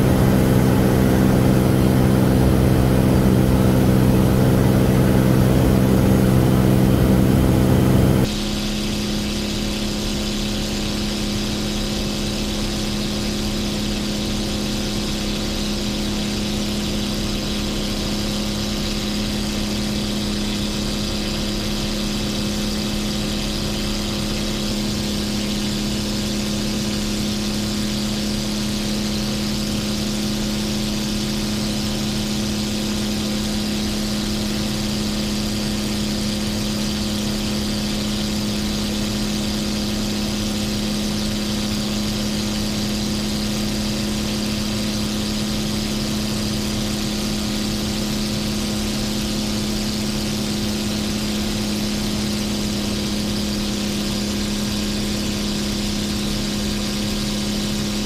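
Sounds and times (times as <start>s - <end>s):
aircraft engine drone: 0.0s - 58.0s
louder engine drone: 0.0s - 58.0s.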